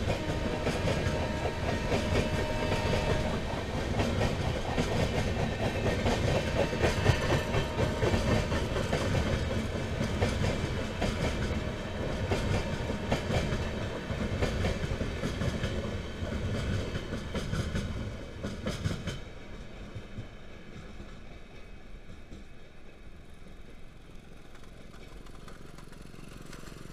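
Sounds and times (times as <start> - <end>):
train rumble: 0.0 - 26.9
train wheels clattering on rails: 0.0 - 26.9.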